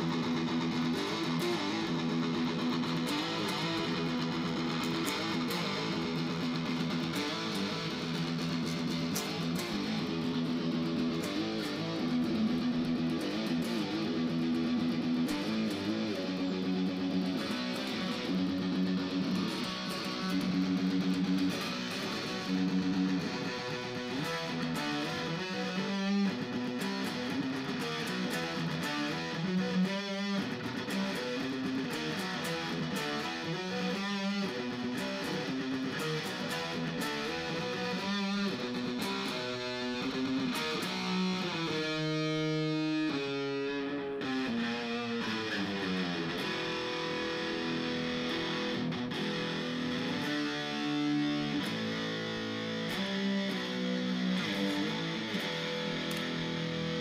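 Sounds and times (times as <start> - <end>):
electric guitar playing: 0.0 - 57.0.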